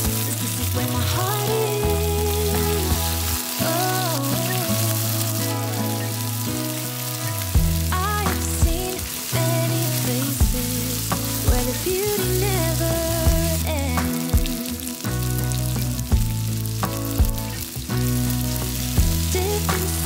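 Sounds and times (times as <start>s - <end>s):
background music: 0.0s - 20.0s
food sizzling in hot oil: 0.0s - 20.0s.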